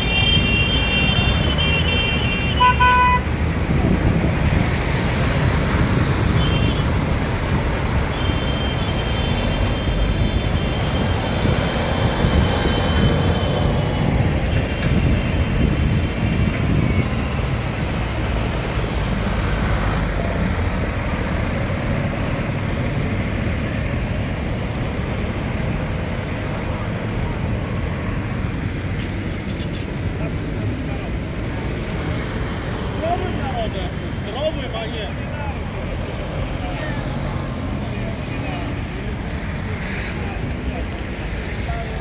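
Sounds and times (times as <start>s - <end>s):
tractors and cars rumbling: 0.0s - 42.0s.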